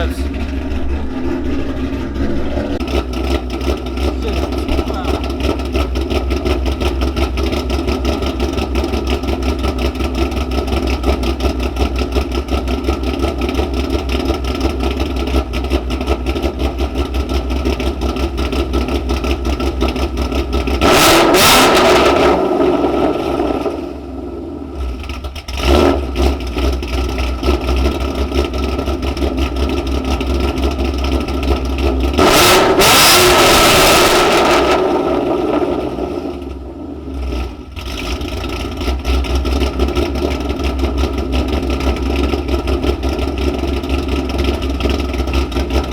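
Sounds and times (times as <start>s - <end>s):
car engine idling: 0.0s - 45.9s
engine revving: 0.0s - 45.9s.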